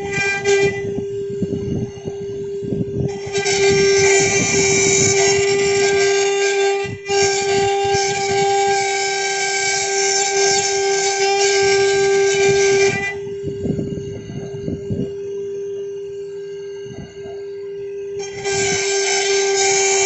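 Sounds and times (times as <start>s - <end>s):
cnc router spindle whine: 0.0s - 20.0s
hissing cutting noise: 0.0s - 20.0s.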